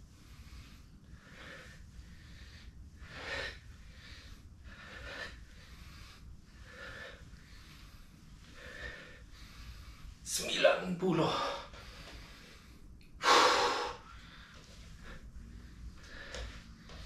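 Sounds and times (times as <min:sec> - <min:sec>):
man breathing hard: 0:00.1 - 0:10.2, 0:11.3 - 0:17.0.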